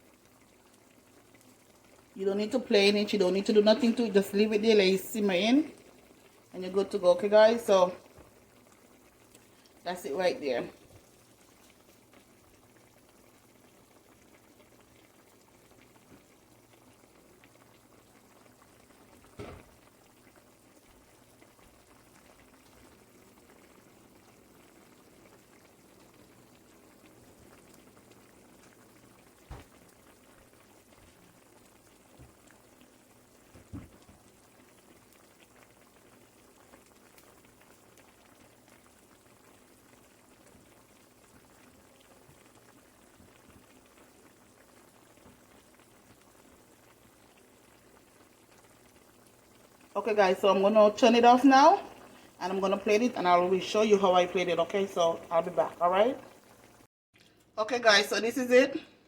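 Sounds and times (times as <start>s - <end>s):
soup bubbling in a pot: 0.0s - 57.6s.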